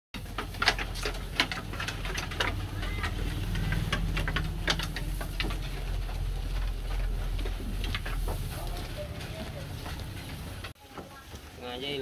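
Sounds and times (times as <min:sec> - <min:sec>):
sheep chewing grass: 0:00.2 - 0:11.6.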